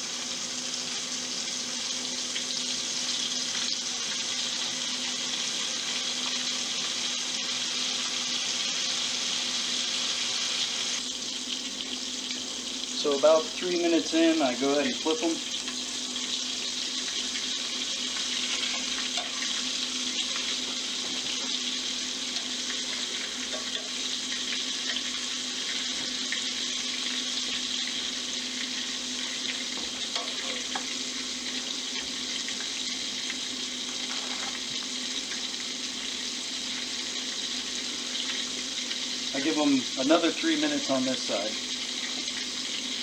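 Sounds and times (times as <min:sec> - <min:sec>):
meat sizzling in a pan: 0:00.0 - 0:43.0.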